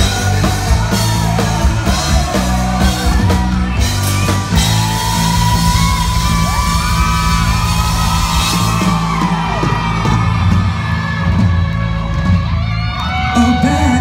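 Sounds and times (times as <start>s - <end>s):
crowd whooping and yelling: 0.0s - 14.0s
live rock band playing: 0.0s - 14.0s.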